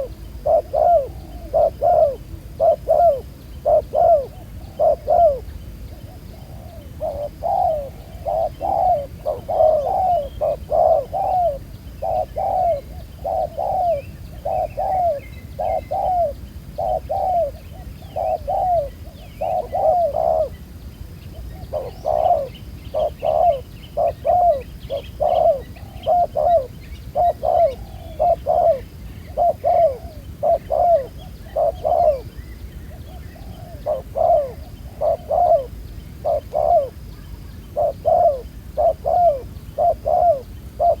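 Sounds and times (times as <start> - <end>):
dove cooing: 0.0 - 20.6, 21.3 - 41.0.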